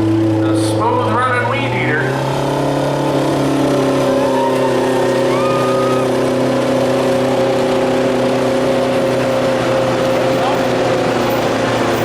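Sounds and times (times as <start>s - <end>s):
lawn tractor engine droning: 0.0s - 12.0s.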